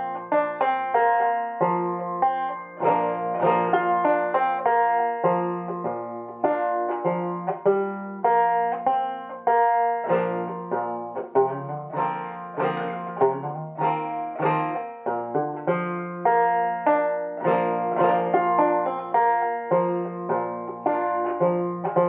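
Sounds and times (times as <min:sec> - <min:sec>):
banjo playing: 0:00.0 - 0:22.0.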